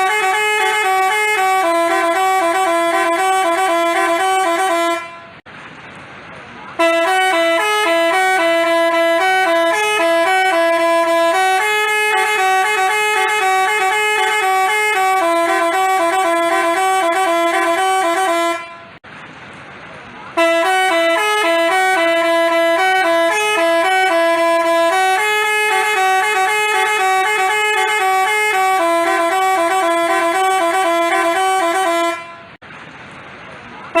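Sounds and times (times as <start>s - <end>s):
musical bus horn playing a tune: 0.0s - 5.4s, 6.8s - 19.0s, 20.4s - 32.6s.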